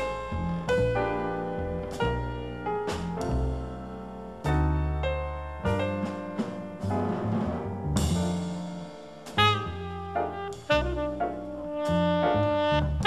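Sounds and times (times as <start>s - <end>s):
jazz band playing: 0.0s - 13.0s.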